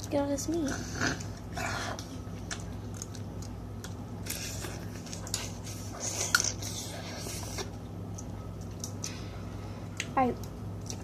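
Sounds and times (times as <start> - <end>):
low steady hum: 0.0 - 11.0
chewing: 0.5 - 11.0.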